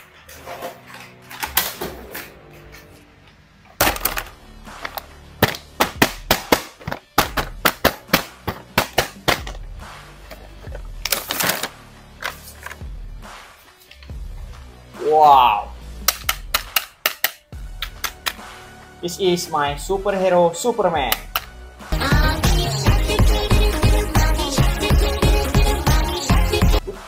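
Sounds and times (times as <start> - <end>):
faint background music: 0.0 - 27.0.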